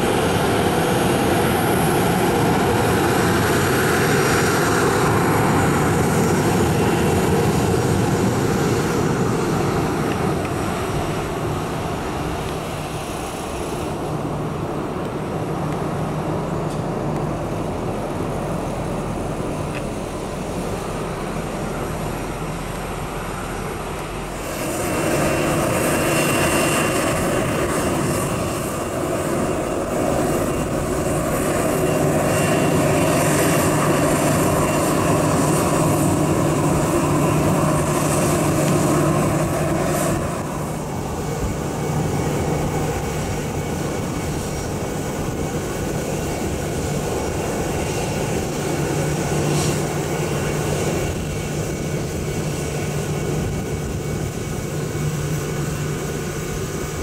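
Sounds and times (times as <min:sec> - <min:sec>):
high-pitched turbine whine: 0:00.0 - 0:57.0
jet engines rumbling: 0:00.0 - 0:57.0.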